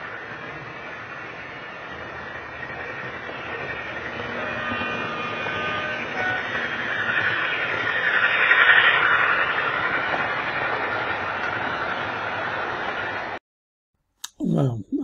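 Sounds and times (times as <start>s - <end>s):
model train passing on track: 0.0s - 13.4s.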